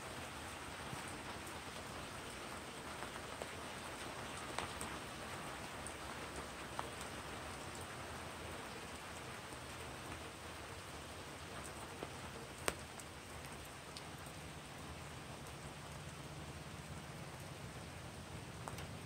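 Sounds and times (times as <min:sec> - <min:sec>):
steady rain hiss: 0:00.0 - 0:19.0
sharp taps of raindrops: 0:00.1 - 0:14.4, 0:15.1 - 0:19.0.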